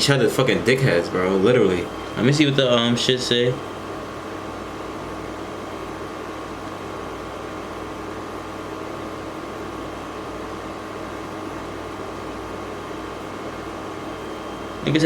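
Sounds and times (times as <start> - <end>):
fan hum and hiss: 0.0 - 15.0.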